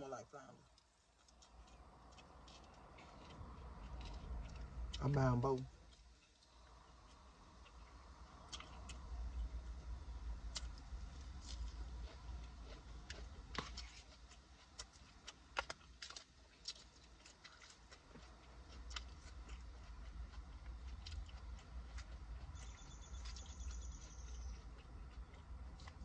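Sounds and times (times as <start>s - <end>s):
steady low hum: 0.0s - 26.0s
chewing salad: 0.6s - 26.0s.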